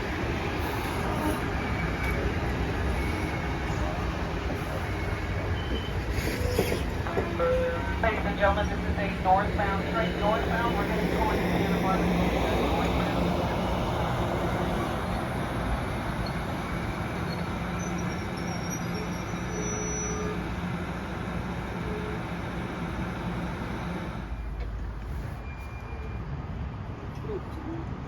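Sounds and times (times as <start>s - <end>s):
train passing rumble: 0.0s - 19.6s, 20.4s - 25.4s.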